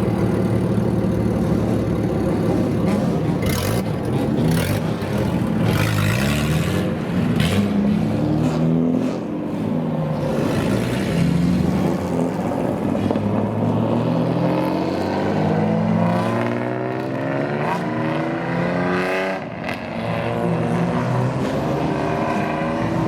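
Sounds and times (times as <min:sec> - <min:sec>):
loud car engine revving: 0:00.0 - 0:23.0.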